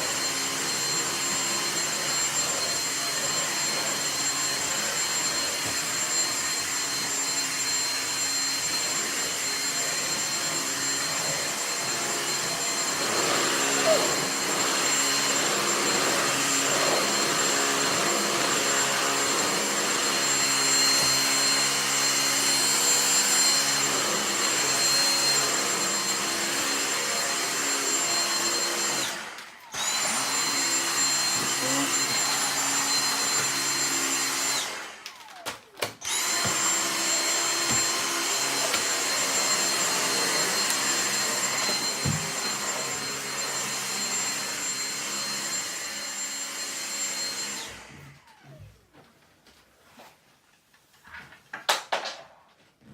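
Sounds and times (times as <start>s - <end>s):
vacuum cleaner whine: 0.0s - 50.1s.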